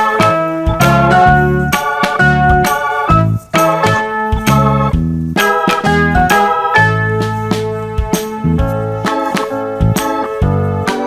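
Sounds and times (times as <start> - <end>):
keyboard instrumental with steady beat: 0.0 - 11.0.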